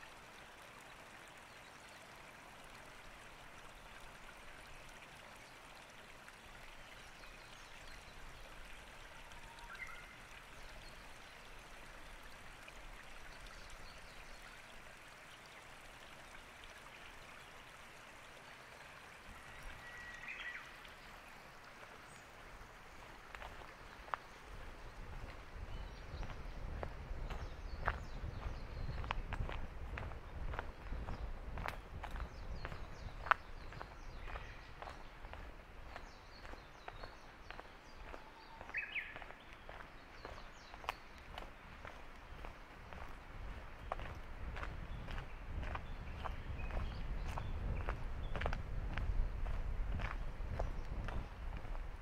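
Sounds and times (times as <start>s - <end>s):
flowing water: 0.0s - 52.0s.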